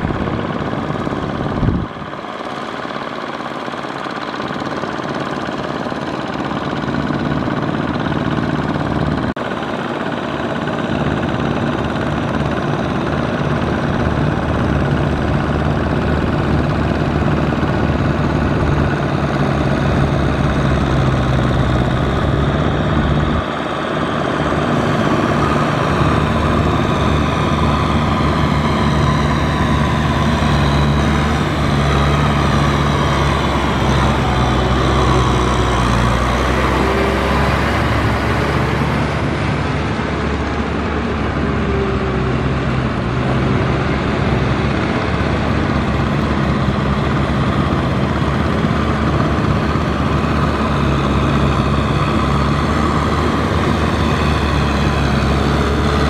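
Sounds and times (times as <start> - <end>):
tractor diesel engines under load: 0.0 - 56.0.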